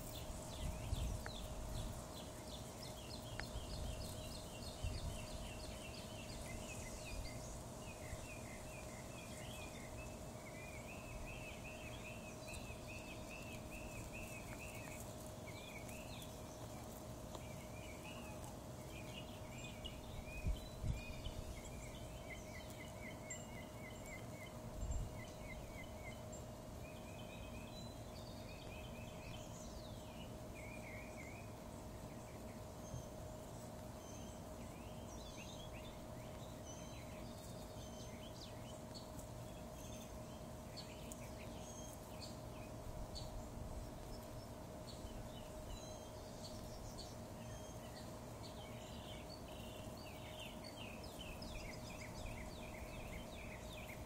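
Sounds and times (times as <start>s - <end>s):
faint steady hum: 0.0s - 54.0s
small birds chirping: 0.0s - 54.0s.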